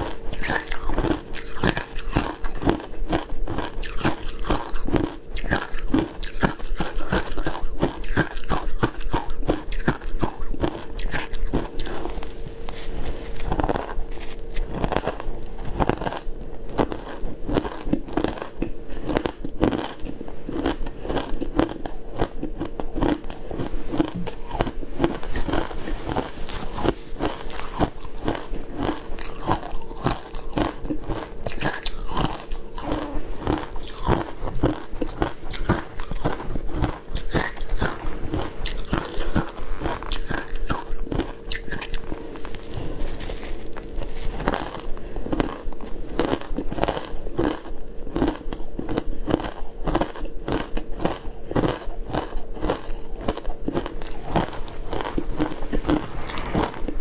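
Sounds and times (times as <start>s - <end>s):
crunching shaved ice: 0.0s - 57.0s.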